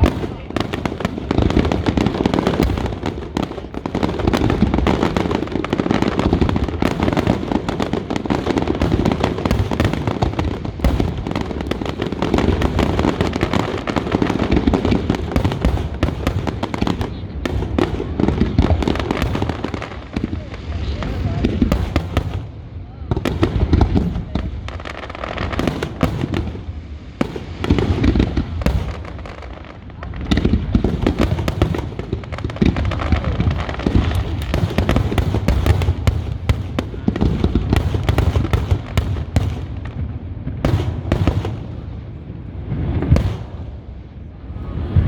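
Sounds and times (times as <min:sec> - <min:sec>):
fireworks bursting with booms and crackle: 0:00.0 - 0:45.0.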